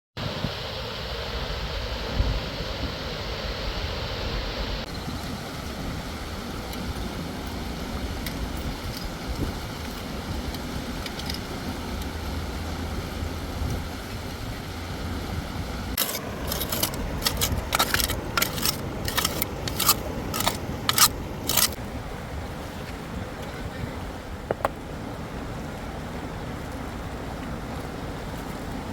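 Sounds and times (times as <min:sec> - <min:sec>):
river water rushing: 0:00.2 - 0:28.9.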